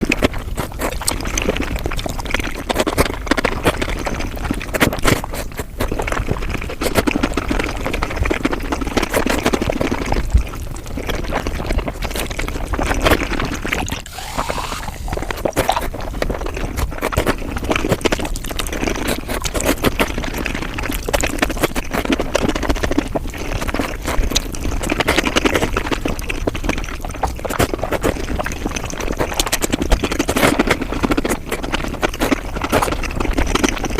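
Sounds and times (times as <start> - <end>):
chewing and wet mouth noises: 0.0 - 33.9.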